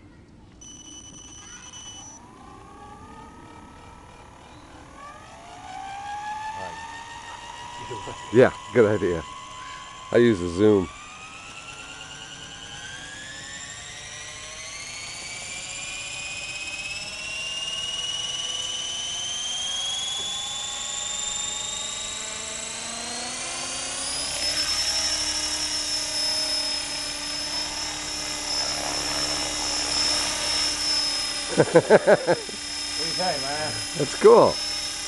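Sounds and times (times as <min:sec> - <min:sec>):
electric motor and gears whining: 0:00.0 - 0:35.0.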